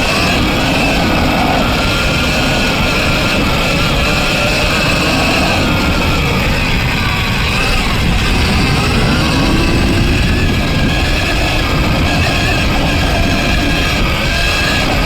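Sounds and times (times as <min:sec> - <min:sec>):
electric motor whine: 0:00.0 - 0:15.0
wind and bike rumble: 0:00.0 - 0:15.0.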